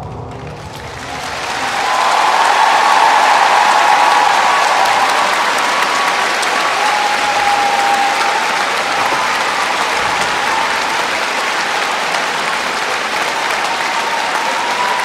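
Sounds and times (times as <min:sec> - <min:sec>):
audience applauding: 0:00.4 - 0:15.0.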